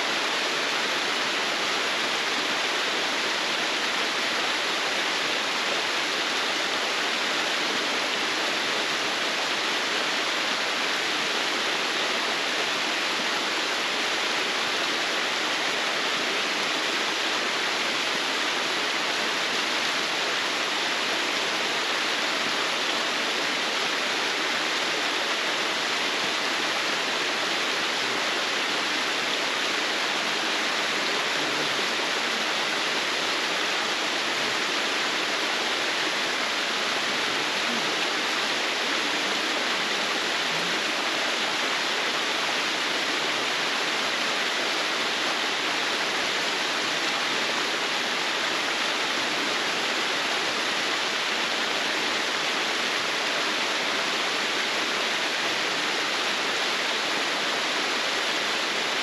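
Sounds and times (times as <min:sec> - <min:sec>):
waterfall rushing over rock: 0:00.0 - 0:59.0.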